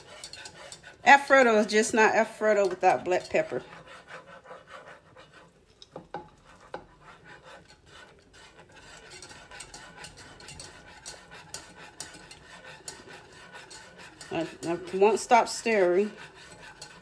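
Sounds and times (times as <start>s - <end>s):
wire whisk scraping a saucepan: 0.0s - 17.0s.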